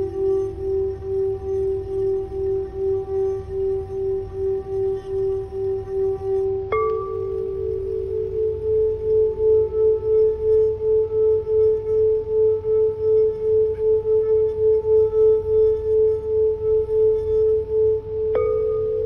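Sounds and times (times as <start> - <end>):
crystal singing bowl ringing: 0.0 - 19.0.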